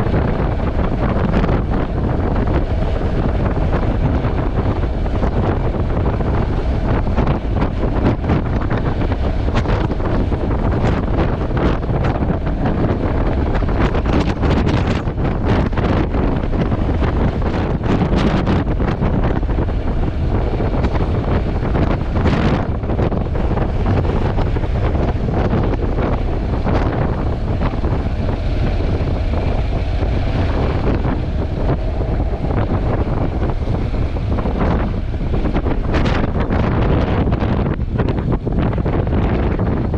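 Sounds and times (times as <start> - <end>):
wind buffeting on microphone: 0.0 - 39.9.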